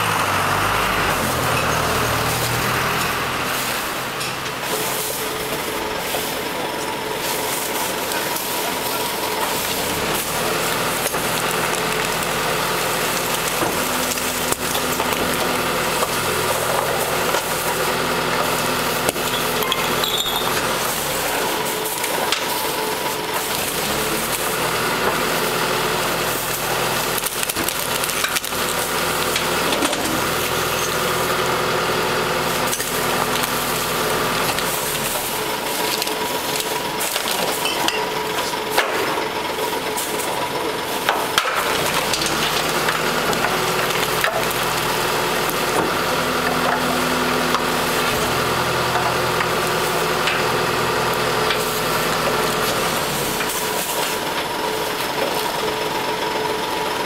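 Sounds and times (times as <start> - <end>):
garbage truck engine humming: 0.0 - 57.0.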